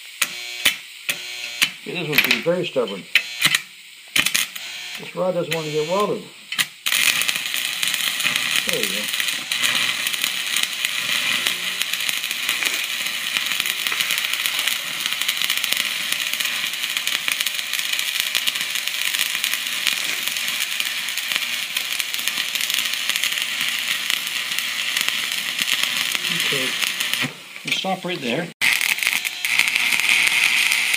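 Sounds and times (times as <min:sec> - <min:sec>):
welding arc crackling and sizzling: 0:00.0 - 0:30.9.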